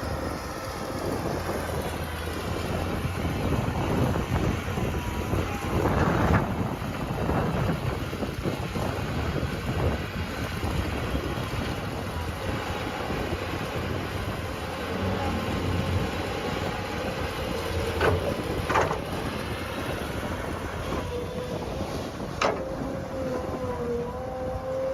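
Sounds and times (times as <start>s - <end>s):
digging machinery rumbling: 0.0s - 24.9s
wind buffeting microphone: 0.0s - 24.9s.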